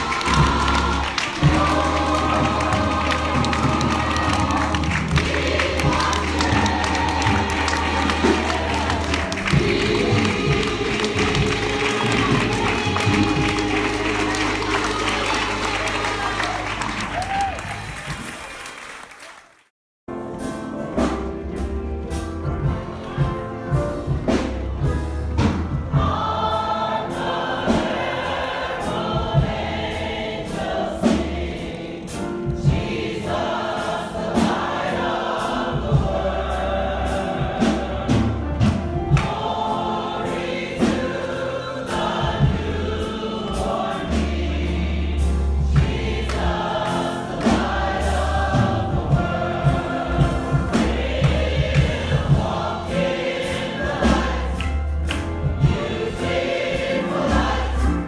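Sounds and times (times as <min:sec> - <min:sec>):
steady drumbeat: 0:00.0 - 0:18.5, 0:22.1 - 0:58.0
congregation singing gospel song: 0:00.0 - 0:18.6, 0:22.5 - 0:58.0.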